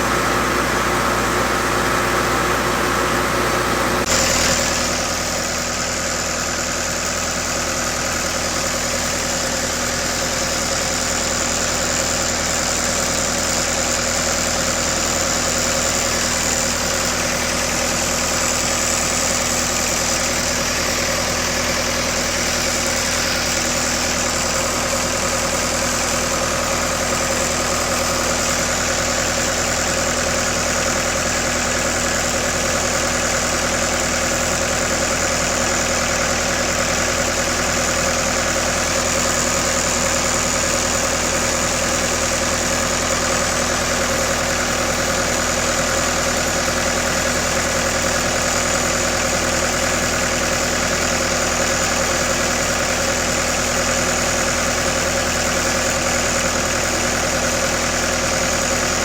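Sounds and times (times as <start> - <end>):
welder engine idling: 0.0 - 59.0.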